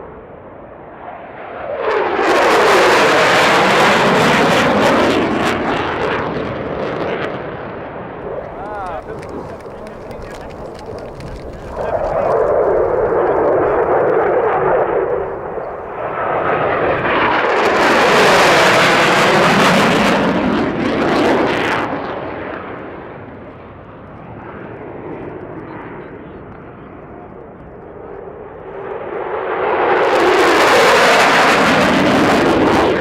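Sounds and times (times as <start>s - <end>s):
fighter jet flying low past: 0.0s - 33.0s.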